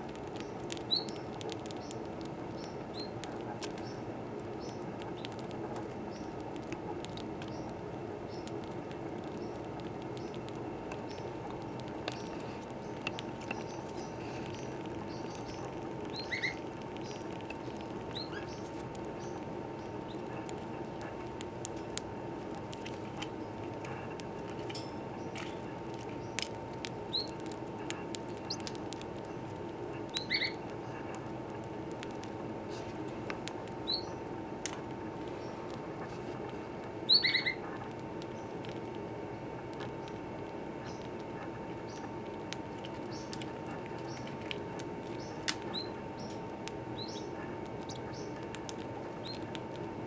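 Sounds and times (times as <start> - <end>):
bird gnawing cork: 0.0 - 50.0
steady background hum: 0.0 - 50.0.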